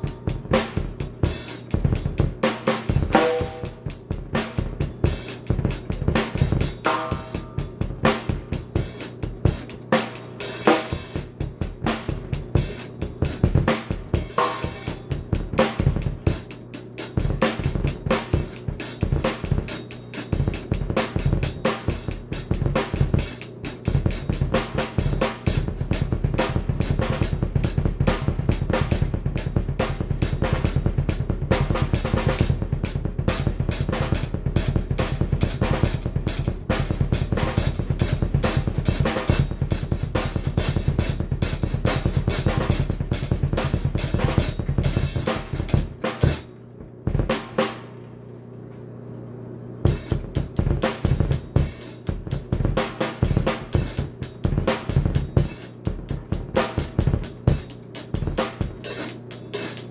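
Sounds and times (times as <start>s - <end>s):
fast double bass drum kicks: 0.0s - 47.9s, 49.9s - 58.8s
snare and cymbals: 0.0s - 48.3s, 49.8s - 59.9s.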